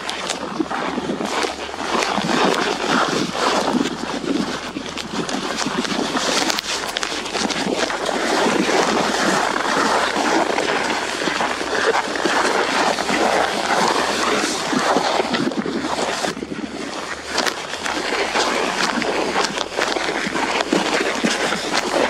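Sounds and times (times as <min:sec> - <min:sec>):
footsteps crunching on snow: 0:00.0 - 0:22.0.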